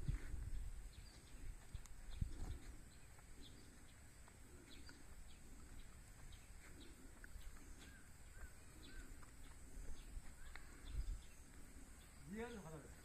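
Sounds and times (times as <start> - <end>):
faint bird chirps: 0.4 - 13.0.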